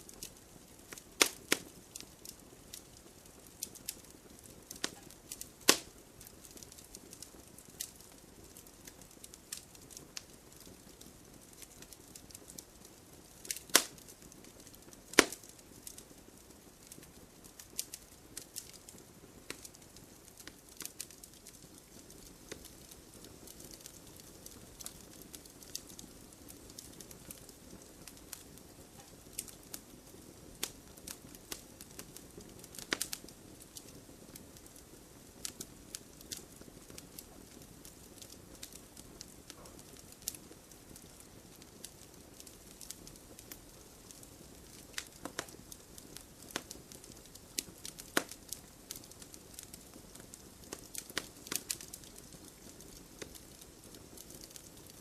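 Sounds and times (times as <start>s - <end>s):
campfire popping: 0.0s - 55.0s
low hiss of fire: 0.0s - 55.0s.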